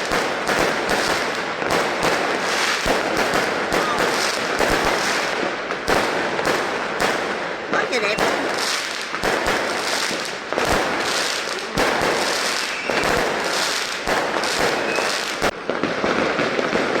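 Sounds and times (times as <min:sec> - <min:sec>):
fireworks crackling and hissing: 0:00.0 - 0:17.0
fireworks sharp bangs: 0:00.0 - 0:17.0.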